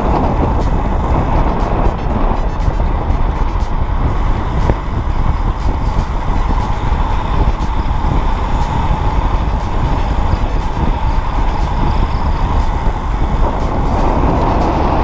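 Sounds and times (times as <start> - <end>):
road rumble: 0.0 - 15.0
wind buffeting camera: 0.0 - 15.0.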